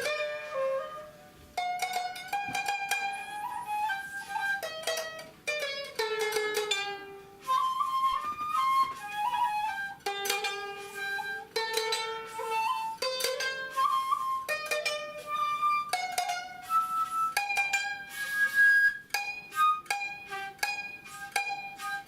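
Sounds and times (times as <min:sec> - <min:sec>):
bamboo flute melody: 0:00.0 - 0:22.0
plucked string instrument: 0:00.0 - 0:22.0.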